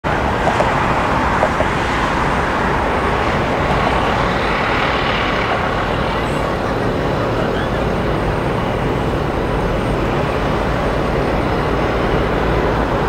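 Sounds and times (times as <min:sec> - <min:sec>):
jet engines roaring at takeoff: 0:00.0 - 0:13.0
road traffic: 0:00.0 - 0:13.0.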